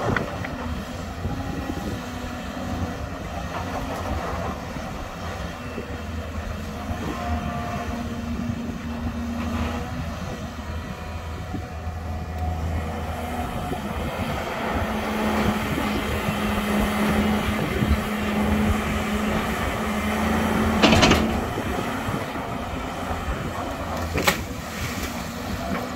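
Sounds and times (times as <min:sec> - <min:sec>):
excavator diesel engine under load: 0:00.0 - 0:25.9.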